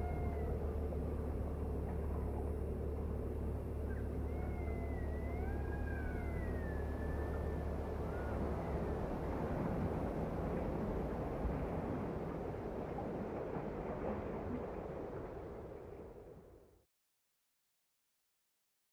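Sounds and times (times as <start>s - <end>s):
faint gliding tones: 0.0s - 16.2s
low vehicle rumble: 0.0s - 16.8s.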